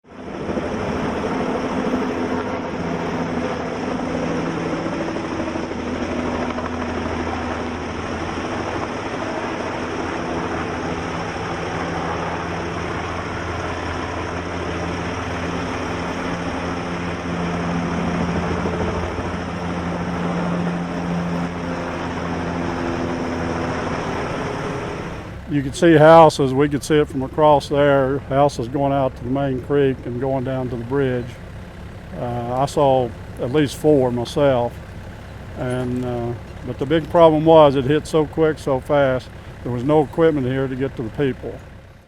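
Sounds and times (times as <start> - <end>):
engine drone: 0.0 - 42.0.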